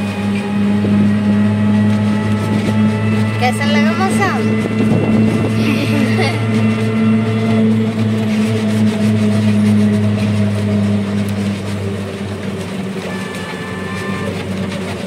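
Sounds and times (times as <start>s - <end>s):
road noise hum: 0.0s - 15.0s
vehicle engine running: 0.0s - 15.0s.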